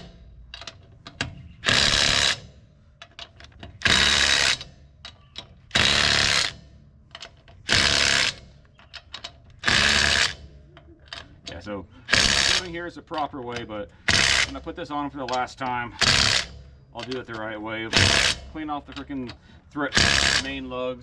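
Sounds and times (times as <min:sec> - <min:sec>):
impact wrench spinning lug nuts: 0:00.0 - 0:21.0.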